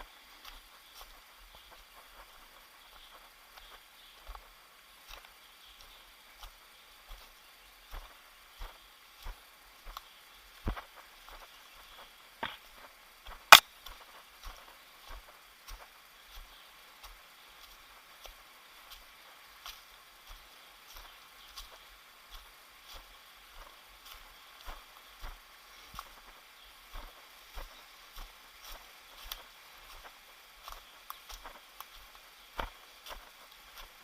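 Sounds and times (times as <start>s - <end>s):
footsteps on a trail: 0.0s - 34.0s.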